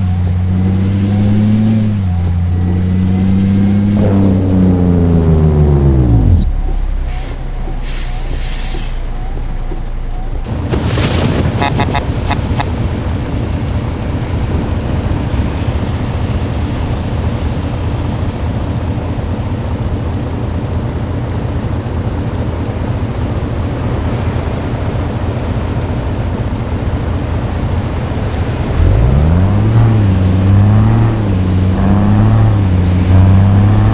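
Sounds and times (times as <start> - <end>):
truck diesel engine rumbling: 0.0 - 33.9.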